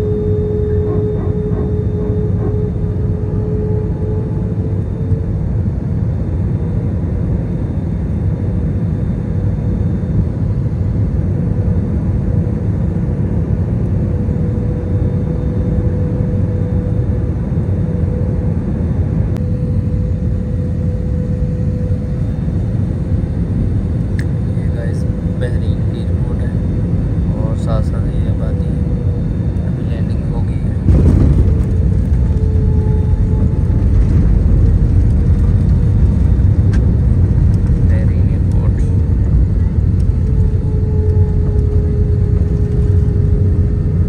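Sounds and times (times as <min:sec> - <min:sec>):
jet engines rumbling in cabin: 0:00.0 - 0:44.0.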